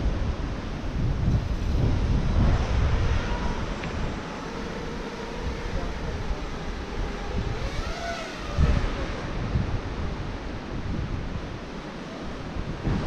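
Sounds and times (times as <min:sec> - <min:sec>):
rushing noise: 0:00.0 - 0:13.0
wind buffeting microphone: 0:00.0 - 0:13.0.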